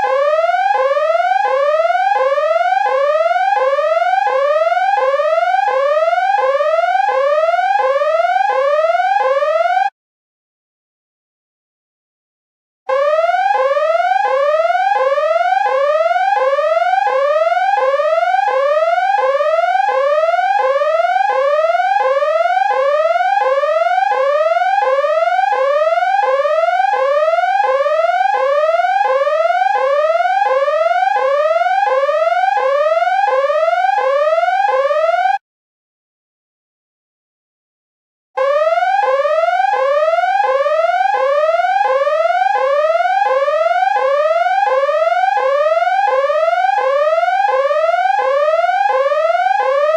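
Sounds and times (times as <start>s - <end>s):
electronic siren wailing: 0.0s - 9.9s, 12.9s - 35.4s, 38.4s - 49.9s.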